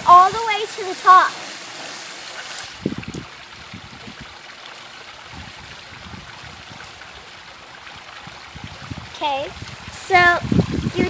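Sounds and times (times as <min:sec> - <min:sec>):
bottle gurgling: 0:00.0 - 0:11.0
hose water into plastic bottle: 0:00.0 - 0:11.0.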